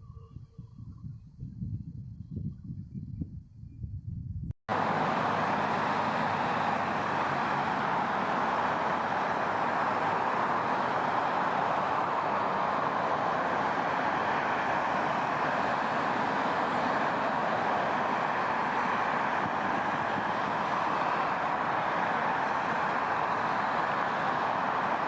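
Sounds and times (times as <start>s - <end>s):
loud steady rushing noise: 4.7s - 25.0s.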